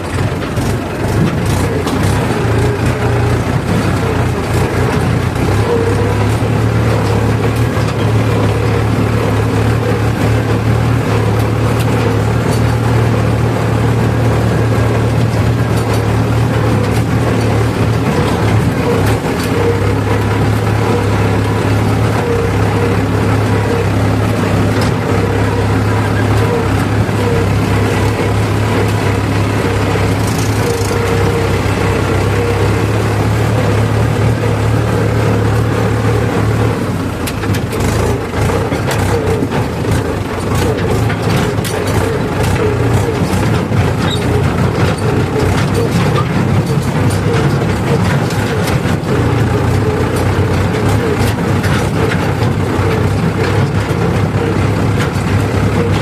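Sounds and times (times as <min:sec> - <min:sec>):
clanks and knocks: 0:00.0 - 0:13.3, 0:14.8 - 0:56.0
diesel engine running: 0:00.0 - 0:56.0.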